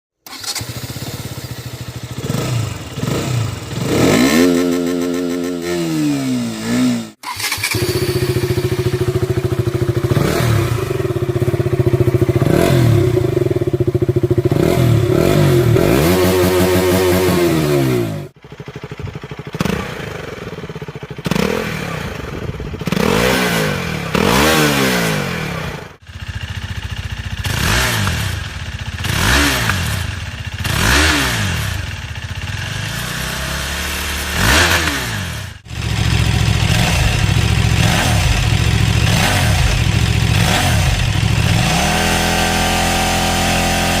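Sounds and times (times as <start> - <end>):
motorcycle engine revving: 0.2 - 44.0.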